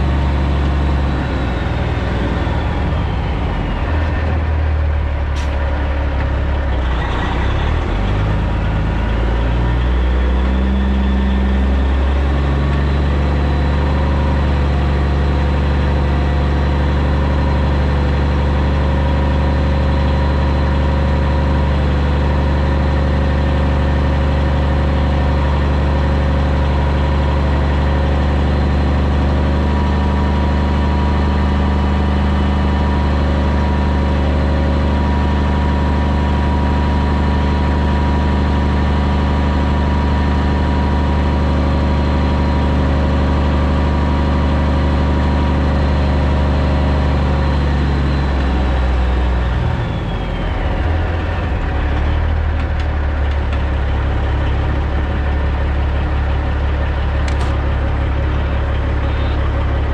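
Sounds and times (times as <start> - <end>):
diesel truck engine at low revs: 0.0 - 59.9.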